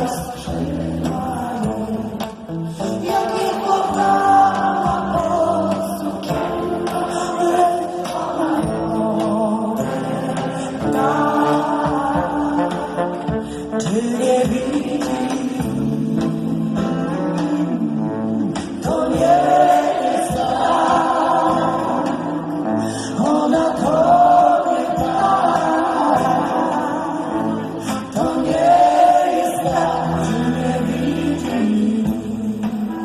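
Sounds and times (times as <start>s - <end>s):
live band music: 0.0s - 33.0s
people singing long notes: 0.0s - 33.0s.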